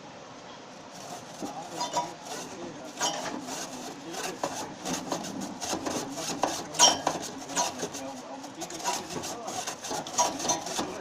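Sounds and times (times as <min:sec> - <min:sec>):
hard objects clattering: 0:01.2 - 0:11.0.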